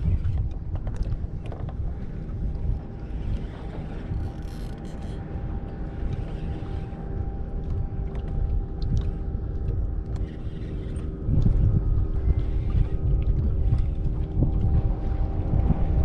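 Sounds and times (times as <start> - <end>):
steady motor hum: 0.0 - 16.0
wind buffeting microphone: 0.0 - 16.0.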